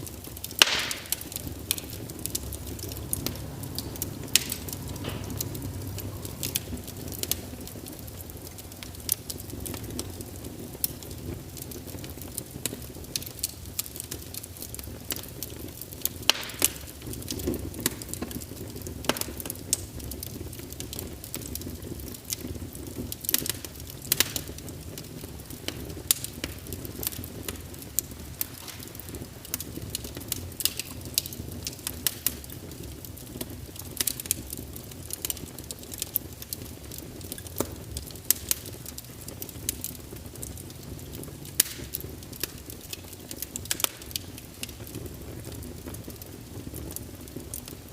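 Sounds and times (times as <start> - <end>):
low rush of flames: 0.0 - 47.9
wood fire crackling: 0.0 - 47.9.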